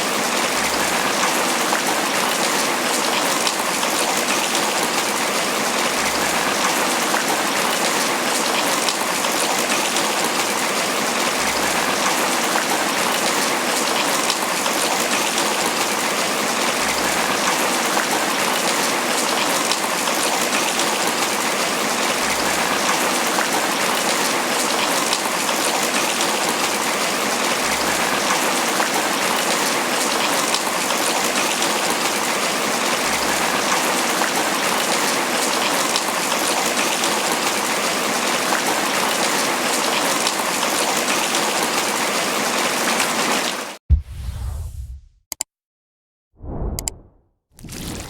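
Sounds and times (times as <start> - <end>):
rain falling on leaves: 0.0 - 43.8.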